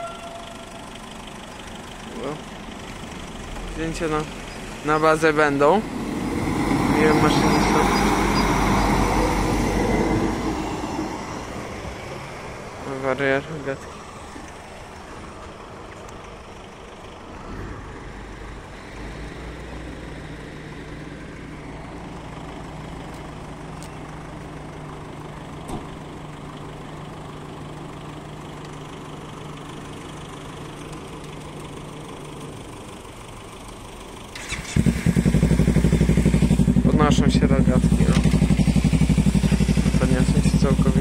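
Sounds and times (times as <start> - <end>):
vehicle engines idling: 0.0 - 41.0.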